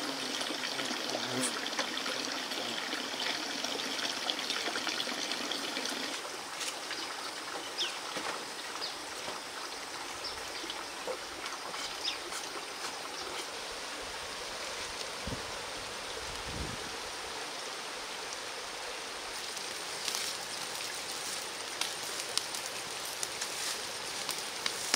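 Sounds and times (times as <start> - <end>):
trickle of running water: 0.0 - 24.9.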